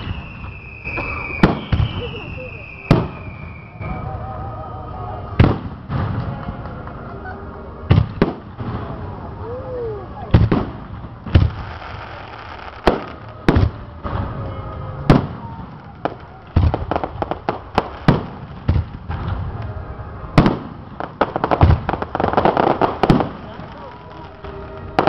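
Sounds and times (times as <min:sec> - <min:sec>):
crackling firework bursts: 0:00.0 - 0:25.0
fireworks booming: 0:00.0 - 0:25.0.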